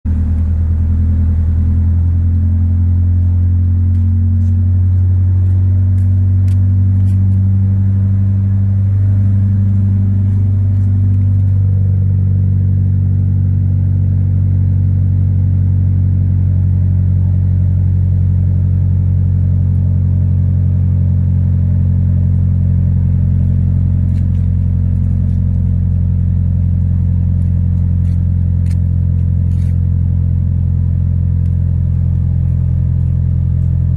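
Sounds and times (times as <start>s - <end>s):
car exhaust idling: 0.0s - 33.9s.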